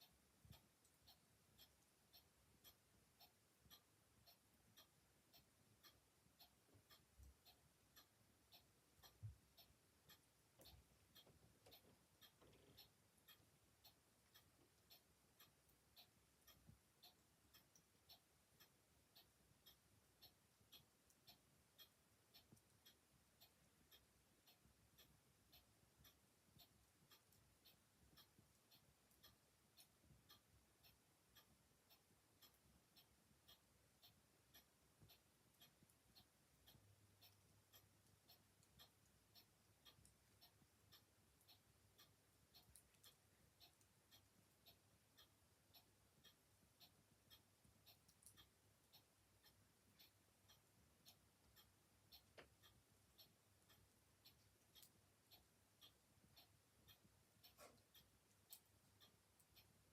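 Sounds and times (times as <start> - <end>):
mechanical clock ticking: 0.0 - 59.9.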